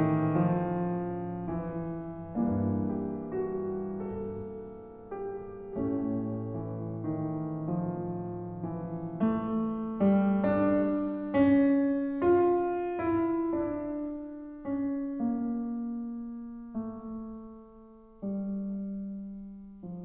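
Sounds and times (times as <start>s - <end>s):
slow solo piano: 0.0s - 20.0s.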